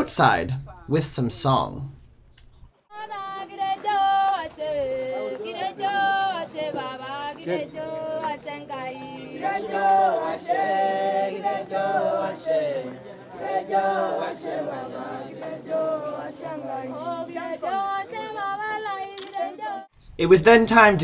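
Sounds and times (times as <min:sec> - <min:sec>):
group singing: 0:03.0 - 0:21.0.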